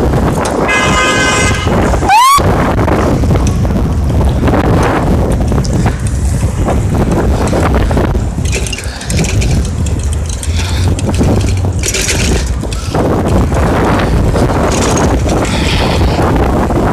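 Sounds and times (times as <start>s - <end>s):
vehicle and road noise: 0.0s - 16.9s
wind buffeting microphone: 0.0s - 16.9s.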